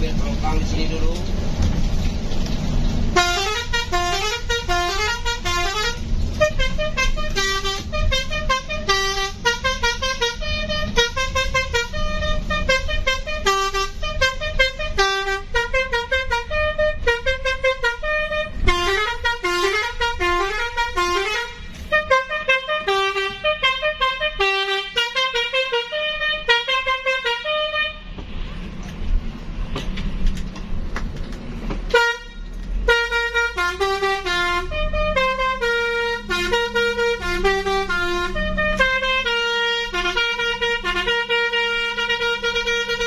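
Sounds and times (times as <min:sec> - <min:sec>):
bus engine running: 0:00.0 - 0:43.0
bus horn playing a tune: 0:03.1 - 0:28.2, 0:31.9 - 0:43.0.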